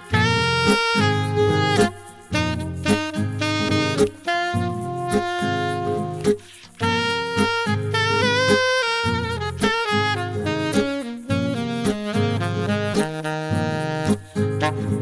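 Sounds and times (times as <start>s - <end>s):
bass: 0.0s - 15.0s
saxophone-like lead melody: 0.0s - 15.0s.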